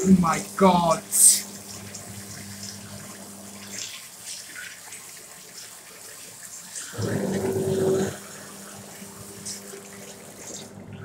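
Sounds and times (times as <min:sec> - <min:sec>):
tap water running into basin: 0:00.0 - 0:11.0.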